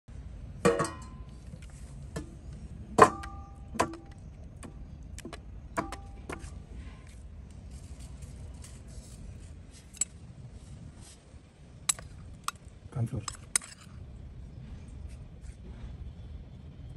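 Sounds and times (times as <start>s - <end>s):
street background rumble: 0.1s - 16.9s.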